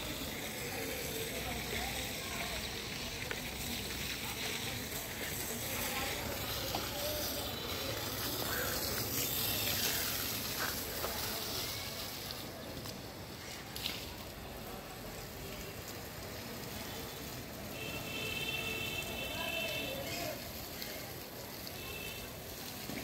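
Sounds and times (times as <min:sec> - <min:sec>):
hose spraying water on brick: 0:00.0 - 0:23.0.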